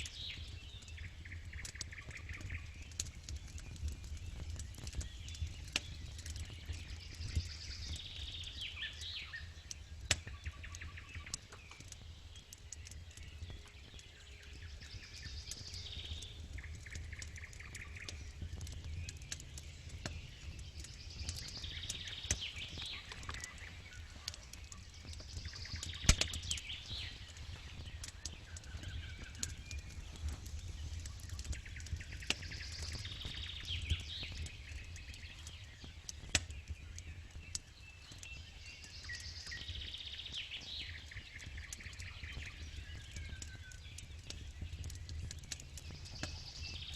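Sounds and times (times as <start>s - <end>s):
campfire crackling and popping: 0.0s - 46.9s
songbird singing: 0.0s - 46.9s.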